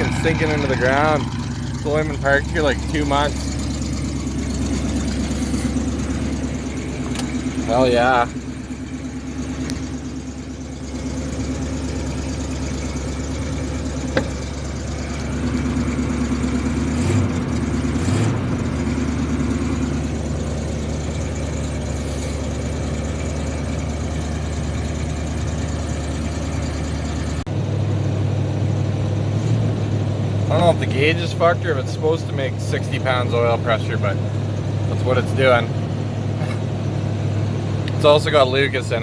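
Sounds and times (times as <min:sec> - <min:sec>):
car engine at high idle: 0:00.0 - 0:39.0.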